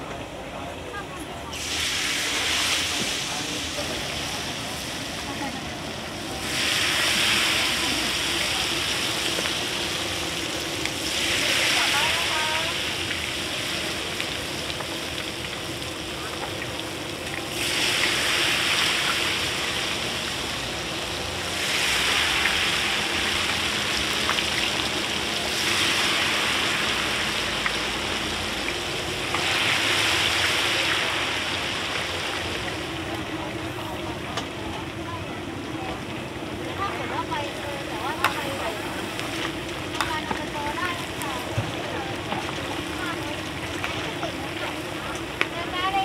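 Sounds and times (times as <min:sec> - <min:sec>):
chicken deep-frying in oil: 0:00.0 - 0:46.0.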